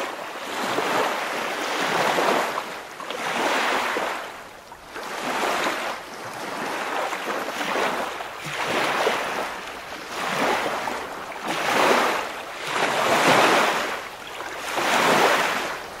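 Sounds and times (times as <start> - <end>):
waves washing in: 0.0 - 16.0.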